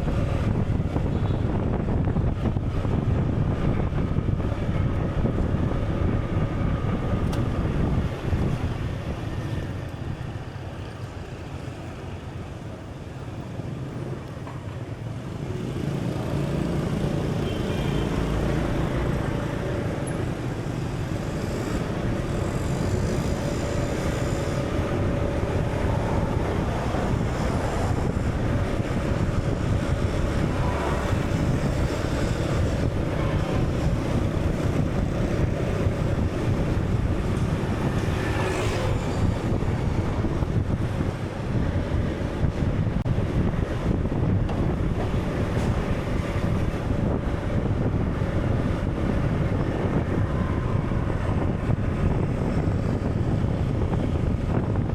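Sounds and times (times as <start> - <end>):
wind: 0.0 - 54.9.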